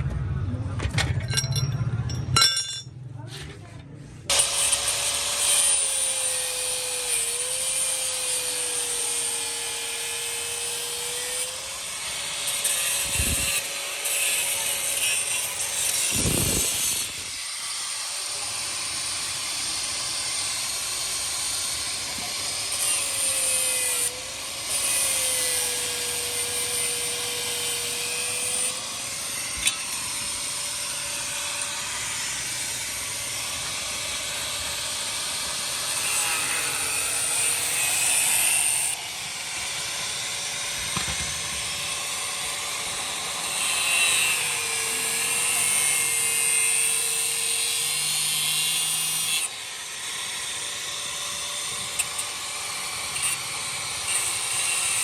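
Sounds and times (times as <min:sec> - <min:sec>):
power tool motor whirring: 0:04.3 - 0:55.0.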